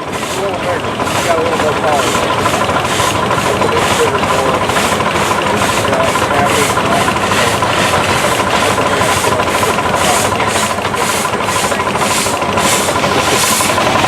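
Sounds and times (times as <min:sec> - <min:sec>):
steady high whine: 0:00.0 - 0:14.0
steam engine exhaust chuffing: 0:00.0 - 0:14.0.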